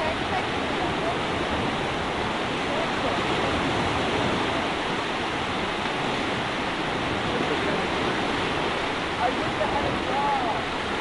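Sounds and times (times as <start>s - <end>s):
sea waves breaking on beach: 0.0s - 11.0s.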